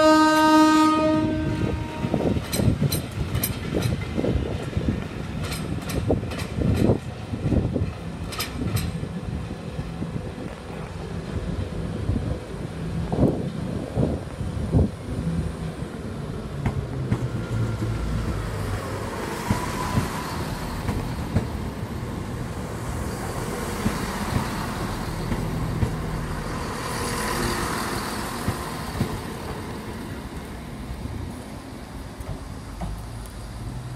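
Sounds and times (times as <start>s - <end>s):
train engine hum: 0.0s - 33.9s
train wheels rolling: 1.3s - 33.9s.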